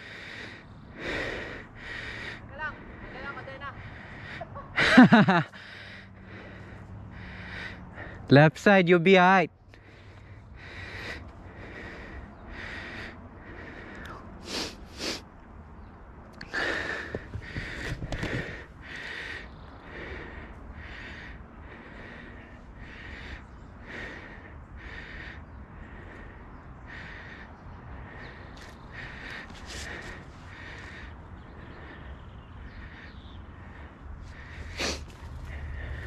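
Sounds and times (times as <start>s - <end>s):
person panting hard: 0.0s - 8.3s, 9.7s - 15.3s, 16.4s - 36.0s.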